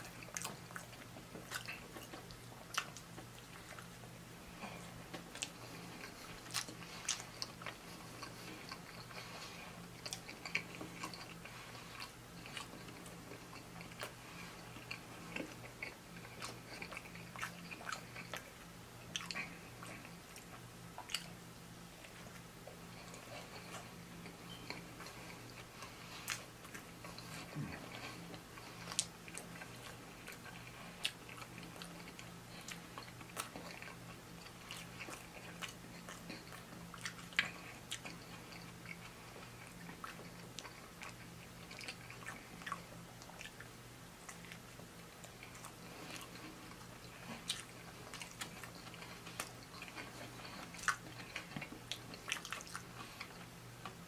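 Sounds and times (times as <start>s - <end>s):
chewing and biting food: 0.0s - 54.0s
low steady hum: 0.0s - 54.0s.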